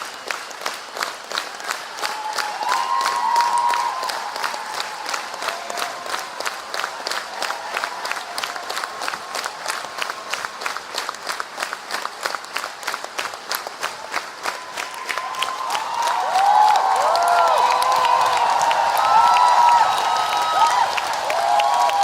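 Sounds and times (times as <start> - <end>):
audience applauding: 0.0 - 22.0
crowd cheering: 0.0 - 22.0.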